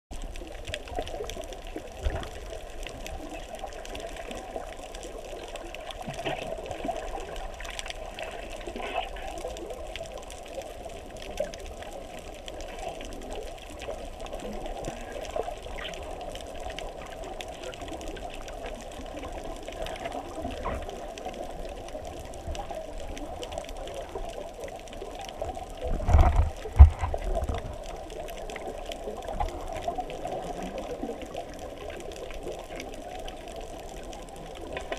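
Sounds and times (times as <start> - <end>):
muffled underwater churning: 0.1 - 34.9.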